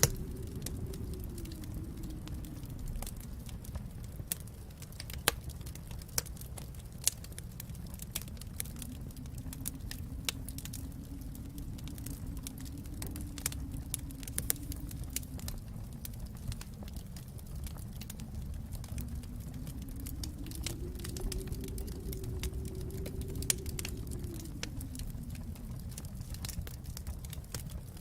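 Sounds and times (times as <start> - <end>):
low fire rumble: 0.0 - 28.0
wood fire popping and snapping: 0.0 - 28.0.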